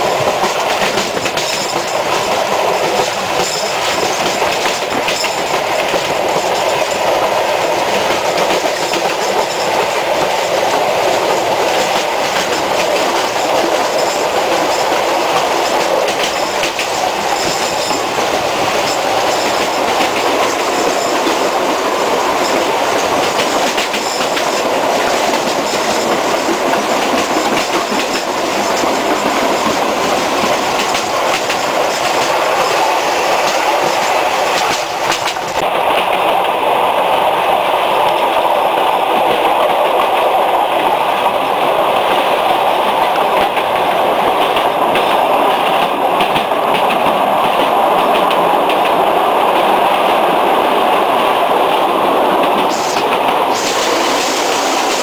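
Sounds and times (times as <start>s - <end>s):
clickety-clack of rail joints: 0.0s - 36.6s, 37.7s - 55.0s
train wheels rumbling on rails: 0.0s - 55.0s.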